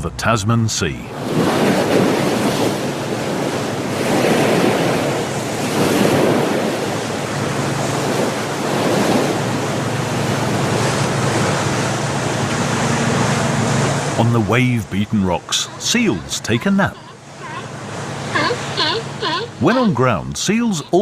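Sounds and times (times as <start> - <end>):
waves breaking: 0.0 - 21.0
wind: 0.0 - 21.0.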